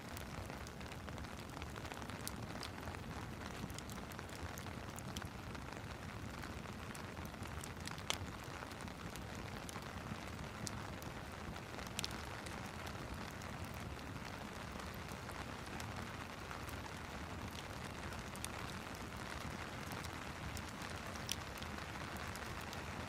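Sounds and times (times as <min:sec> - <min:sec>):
steady rain: 0:00.0 - 0:23.0
wood fire crackling and popping: 0:00.0 - 0:23.0.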